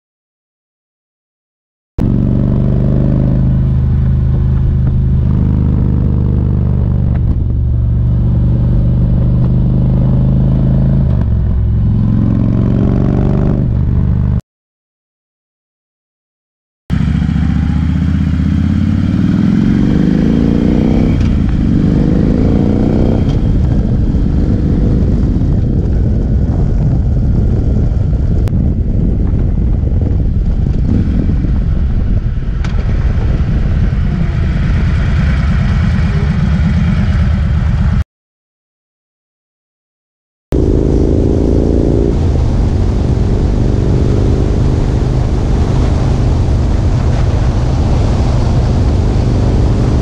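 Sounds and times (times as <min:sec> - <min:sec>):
motorcycle engine accelerating: 0:02.0 - 0:14.4, 0:16.9 - 0:38.0, 0:40.5 - 0:50.0
wind and road noise: 0:02.0 - 0:14.4, 0:16.9 - 0:38.0, 0:40.5 - 0:50.0.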